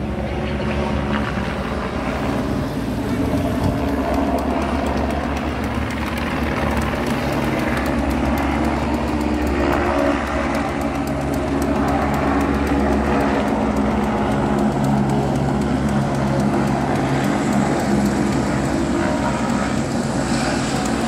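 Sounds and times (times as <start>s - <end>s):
engine drone: 0.0s - 21.0s
fast high chatter: 2.9s - 21.0s.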